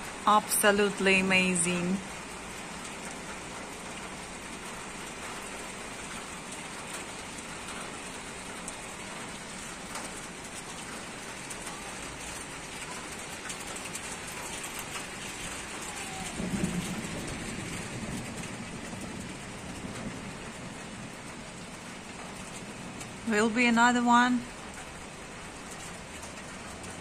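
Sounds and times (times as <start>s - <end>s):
heavy rain pouring: 0.0s - 27.0s
raindrops tapping close by: 0.0s - 27.0s.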